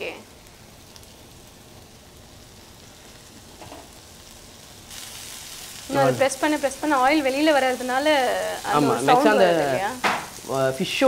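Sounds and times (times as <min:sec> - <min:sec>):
fish sizzling on grill pan: 0:00.0 - 0:11.0.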